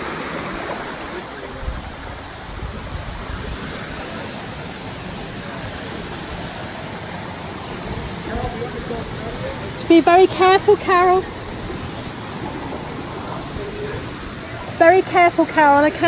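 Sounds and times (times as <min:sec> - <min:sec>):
stream cascading through rocks: 0:00.0 - 0:16.0.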